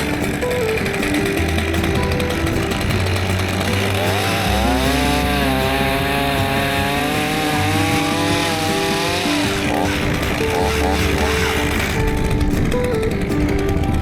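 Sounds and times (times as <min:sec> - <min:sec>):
chainsaw cutting at high revs: 0:00.0 - 0:12.3.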